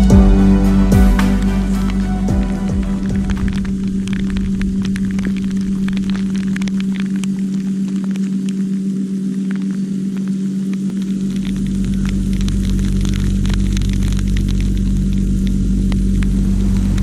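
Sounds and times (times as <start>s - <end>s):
loud low hum: 0.0s - 17.0s.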